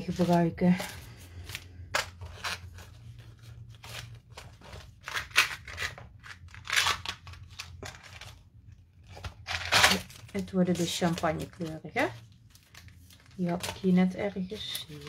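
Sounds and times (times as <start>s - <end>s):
packets and paper rustling: 0.0s - 15.0s.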